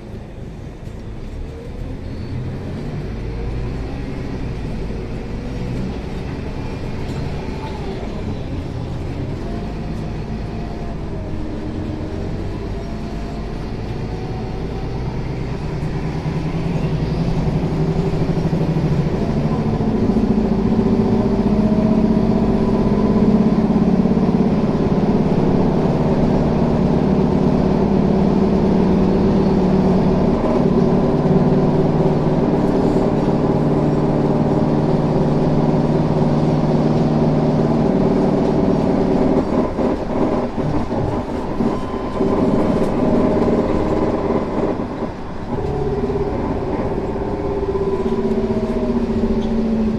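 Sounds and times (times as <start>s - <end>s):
bus engine running: 0.0s - 49.9s.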